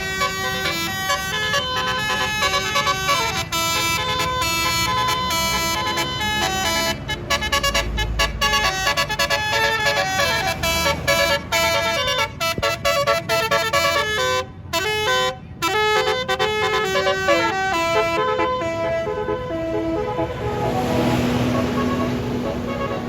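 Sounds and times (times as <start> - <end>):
bus horn playing a tune: 0.0 - 23.0.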